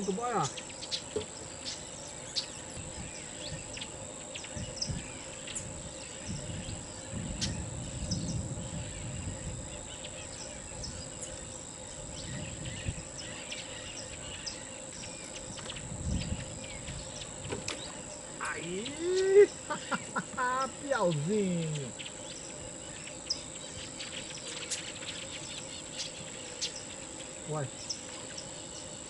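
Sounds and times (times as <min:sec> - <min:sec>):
bird chirps: 0:00.0 - 0:29.0
high-pitched insect drone: 0:00.0 - 0:29.0.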